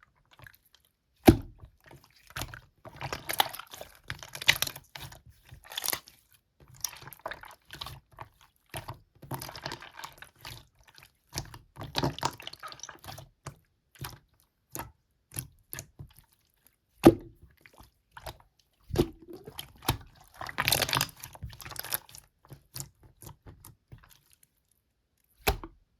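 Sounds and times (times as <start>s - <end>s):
slime squishing by hand: 0.2s - 25.9s.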